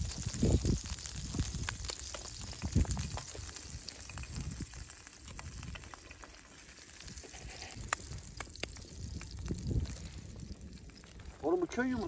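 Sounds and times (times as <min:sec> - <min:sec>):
egg sizzling in oil: 0:00.0 - 0:11.4.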